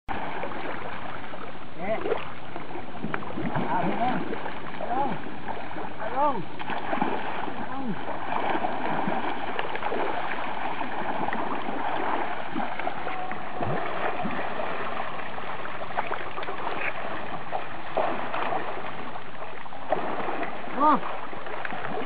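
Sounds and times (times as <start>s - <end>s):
elephants splashing in river water: 0.1s - 22.0s.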